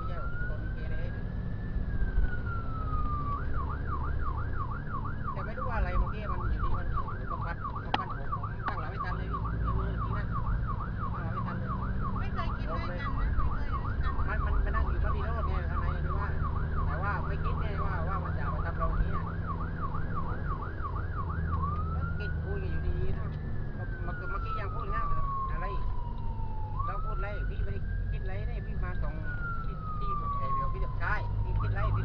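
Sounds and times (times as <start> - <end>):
emergency siren wailing and yelping: 0.0 - 32.0.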